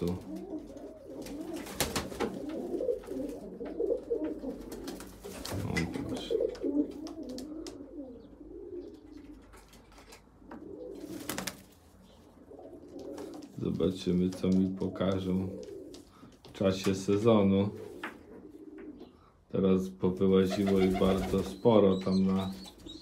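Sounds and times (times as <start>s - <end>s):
pigeons cooing: 0.0s - 16.5s, 17.3s - 19.5s, 20.4s - 23.0s.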